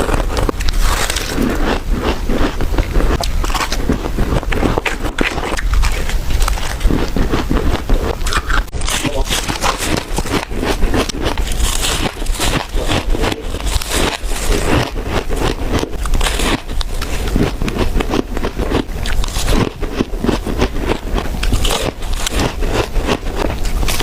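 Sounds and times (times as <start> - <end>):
chewing crunchy ice: 0.0 - 24.0.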